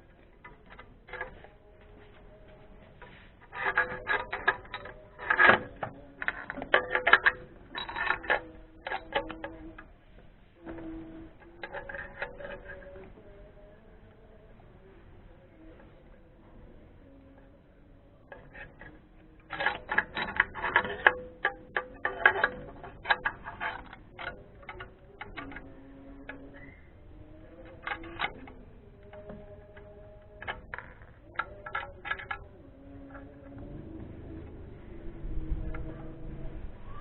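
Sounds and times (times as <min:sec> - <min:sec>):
tool clicks and metallic knocks: 0:00.0 - 0:13.2, 0:17.3 - 0:34.6.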